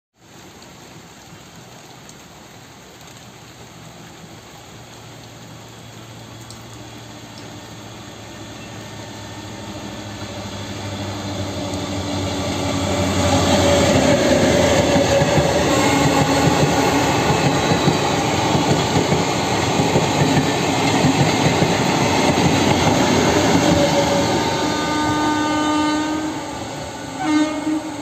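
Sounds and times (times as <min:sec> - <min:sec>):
rail noise: 0:00.2 - 0:28.0
train engine hum: 0:01.6 - 0:28.0.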